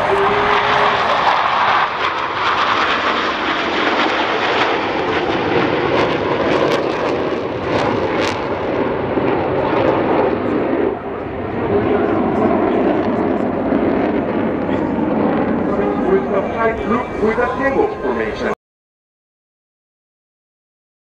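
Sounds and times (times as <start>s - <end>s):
jets flying by: 0.0s - 18.6s.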